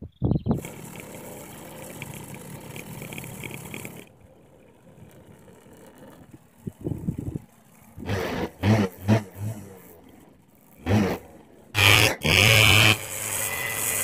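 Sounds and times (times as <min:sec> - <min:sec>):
scooter engine idling: 0:00.5 - 0:14.0.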